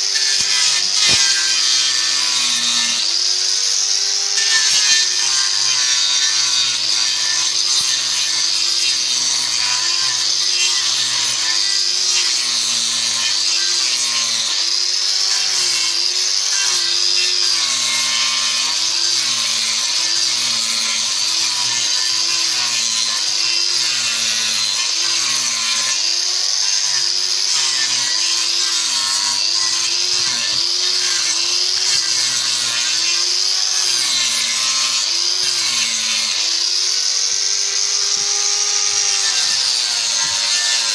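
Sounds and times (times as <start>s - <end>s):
power tool cutting wood: 0.0s - 40.9s.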